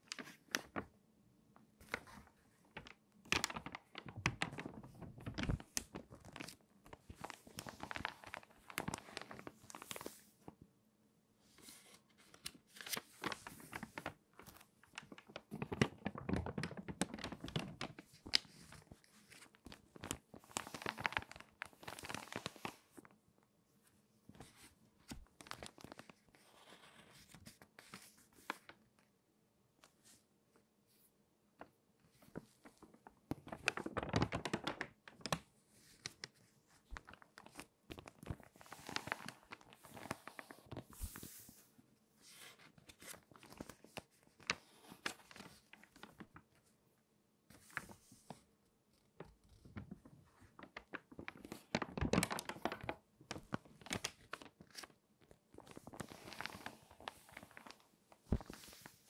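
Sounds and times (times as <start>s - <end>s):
magazine pages crackling: 0.0s - 0.9s, 1.8s - 10.6s, 11.6s - 23.1s, 24.4s - 28.8s, 32.1s - 46.7s, 47.5s - 48.4s, 49.0s - 59.0s.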